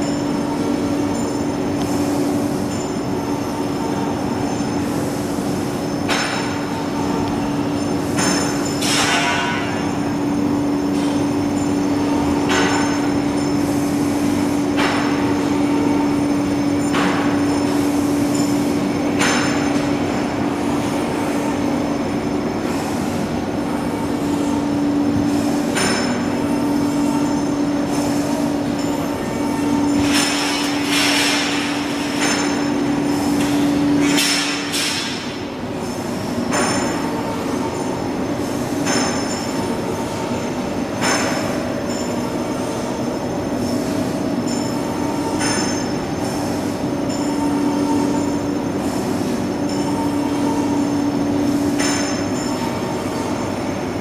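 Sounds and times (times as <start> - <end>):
high machine whine: 0.0 - 54.0
industrial machinery hum: 0.0 - 54.0.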